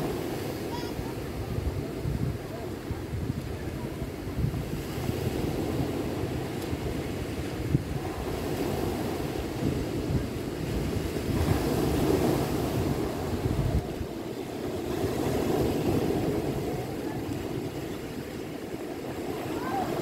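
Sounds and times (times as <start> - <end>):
surf washing onto cobblestones: 0.0 - 20.0
wind rumbling on microphone: 0.0 - 20.0.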